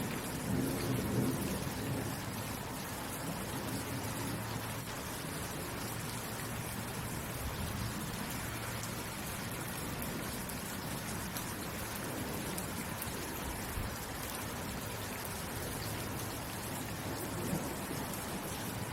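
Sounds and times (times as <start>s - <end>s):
steady rainfall: 0.0s - 18.9s.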